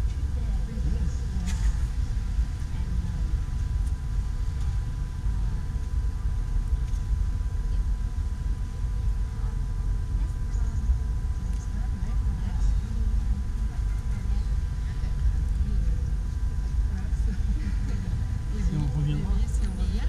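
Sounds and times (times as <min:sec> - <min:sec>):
wind rumbling on microphone: 0:00.0 - 0:18.7.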